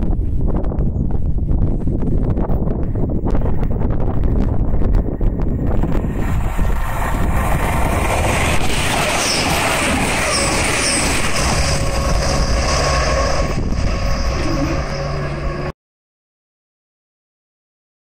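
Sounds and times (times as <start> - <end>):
train wheels rumbling on rail: 0.0 - 15.7.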